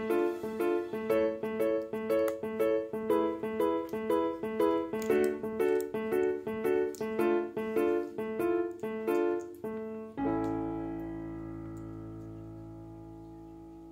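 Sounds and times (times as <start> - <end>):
piano chords: 0.0 - 13.9.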